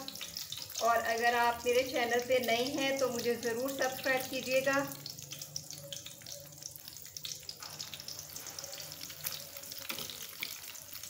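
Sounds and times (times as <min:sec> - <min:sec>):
cutlets sizzling in hot oil: 0:00.0 - 0:11.0.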